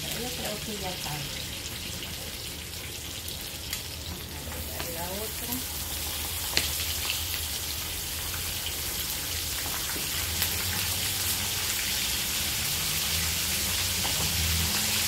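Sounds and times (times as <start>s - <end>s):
beef sizzling in hot oil: 0.0s - 15.0s.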